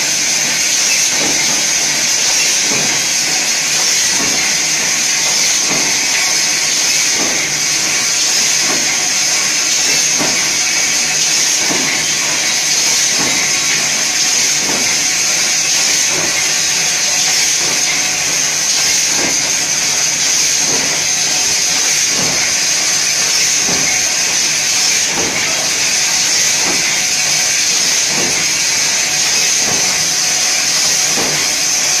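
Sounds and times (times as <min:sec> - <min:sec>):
machine stations stroking: 0:00.0 - 0:32.0
packing machine hissing: 0:00.0 - 0:32.0.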